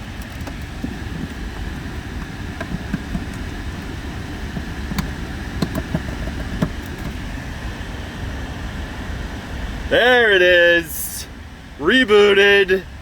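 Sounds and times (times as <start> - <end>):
ventilation fan hum: 0.0 - 13.0.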